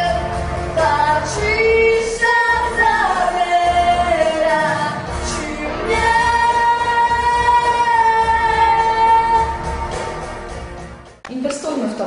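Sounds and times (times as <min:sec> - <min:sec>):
women singing pop song: 0:00.0 - 0:10.2
backing track with steady beat: 0:00.0 - 0:11.7.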